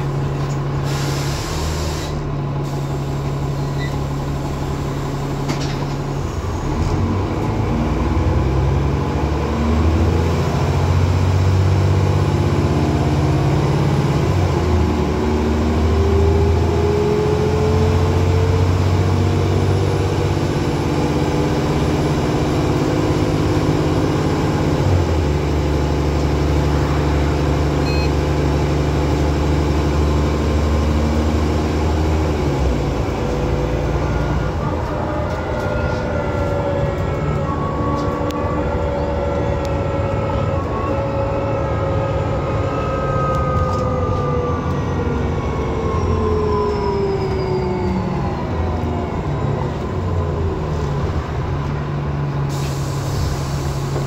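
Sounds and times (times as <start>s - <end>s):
bus diesel engine under load: 0.0s - 54.0s.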